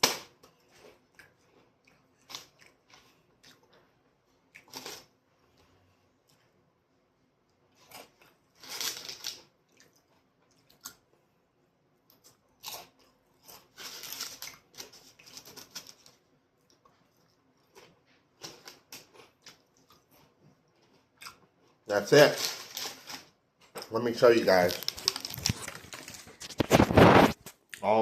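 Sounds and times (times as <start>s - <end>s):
person eating crunchy food: 0.0s - 6.4s, 7.7s - 11.2s, 12.0s - 23.4s, 24.4s - 27.7s.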